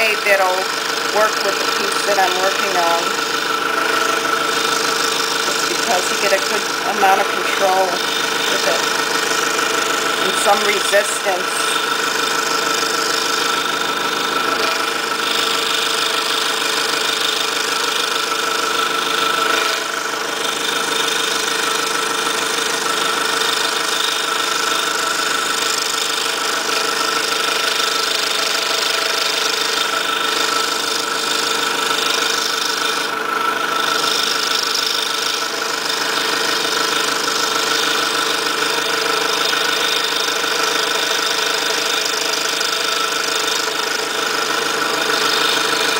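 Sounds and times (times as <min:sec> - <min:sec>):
scroll saw cutting plywood: 0:00.0 - 0:45.9.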